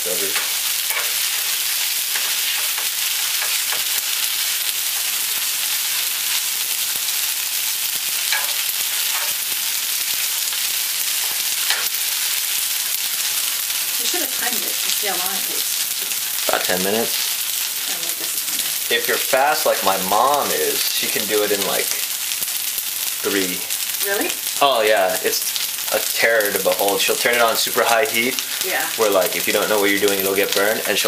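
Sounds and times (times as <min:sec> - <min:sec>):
noodles sizzling in a frying pan: 0:00.0 - 0:31.0.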